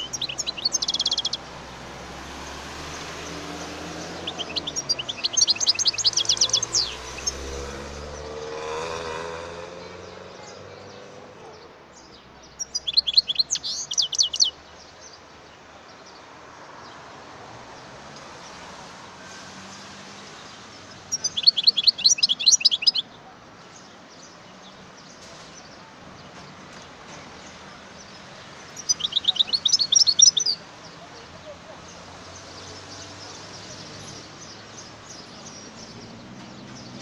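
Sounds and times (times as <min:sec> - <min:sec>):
bird twittering song: 0:00.0 - 0:17.0, 0:19.6 - 0:37.0.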